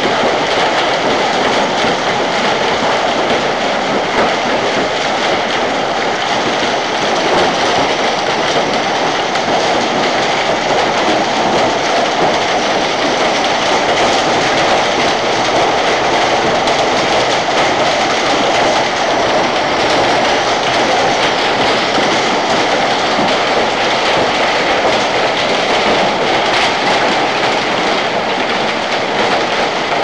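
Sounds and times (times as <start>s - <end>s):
hail and rain pelting down: 0.0s - 30.0s.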